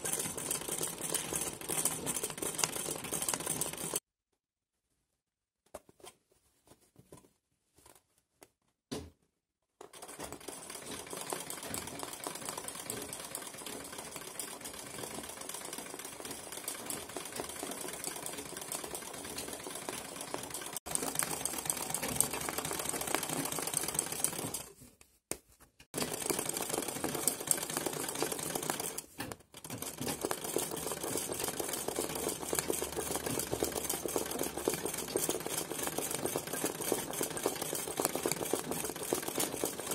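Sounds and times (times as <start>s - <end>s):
sewing machine stitching fast: 0.0s - 4.0s, 9.8s - 24.7s, 26.0s - 39.9s.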